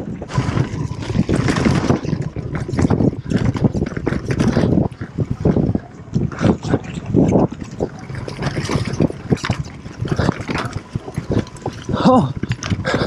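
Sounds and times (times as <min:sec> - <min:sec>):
bike knocking and rattling: 0:00.0 - 0:13.0
bike tyres on dirt: 0:00.0 - 0:13.0.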